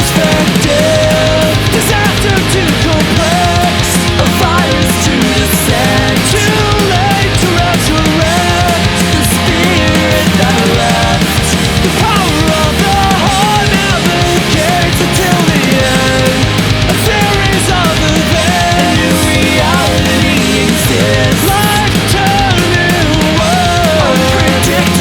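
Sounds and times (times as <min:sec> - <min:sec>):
punk rock band playing: 0:00.0 - 0:25.0.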